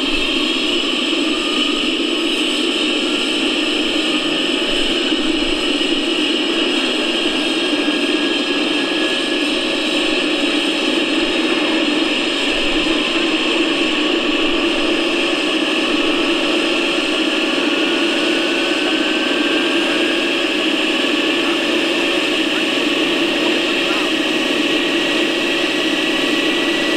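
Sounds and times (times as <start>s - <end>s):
model helicopter turbine hiss and whine: 0.0s - 26.9s.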